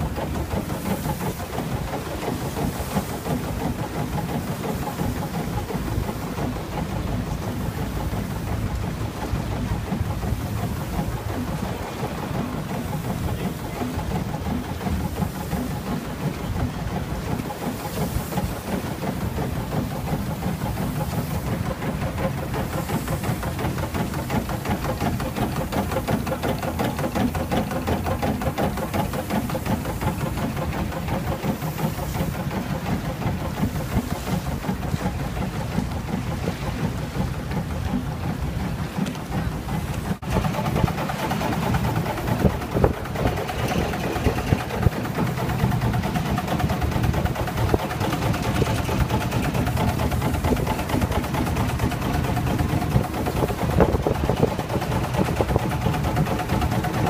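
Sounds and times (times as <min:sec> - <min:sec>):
steamboat engine running: 0:00.0 - 0:57.0.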